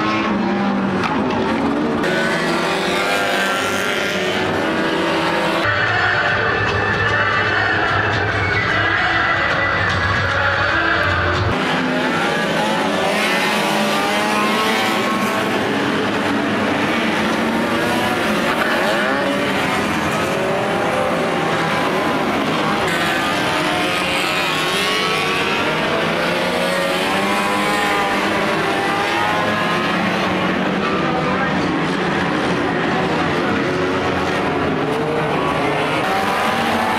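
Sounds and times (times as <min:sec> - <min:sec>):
racing car engines revving: 0:00.0 - 0:36.9.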